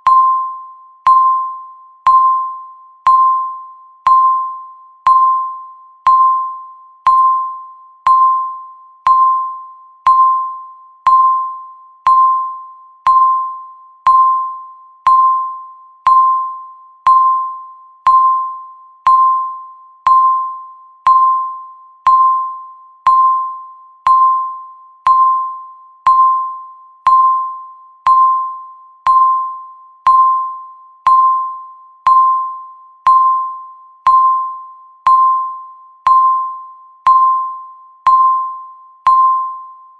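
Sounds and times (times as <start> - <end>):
timer electronic tick tone: 0.0 - 39.9.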